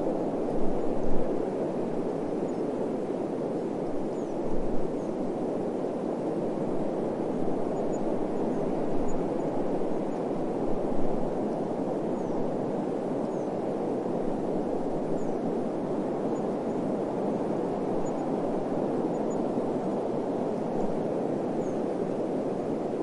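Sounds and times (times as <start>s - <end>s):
rushing wind: 0.0s - 23.0s.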